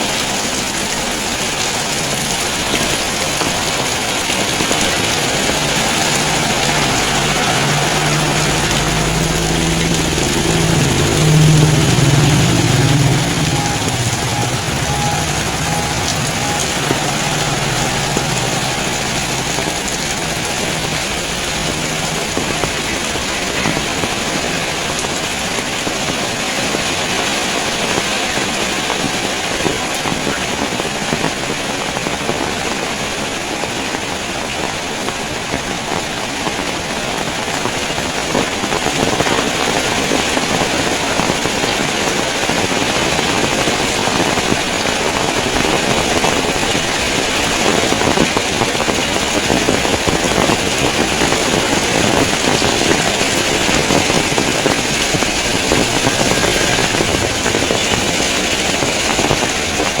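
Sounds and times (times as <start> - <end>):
heavy rain falling: 0.0 - 60.0
strong wind: 0.0 - 60.0.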